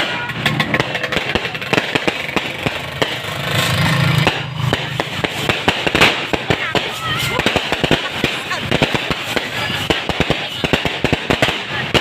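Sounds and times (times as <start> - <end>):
fireworks and firecrackers crackling: 0.0 - 12.0.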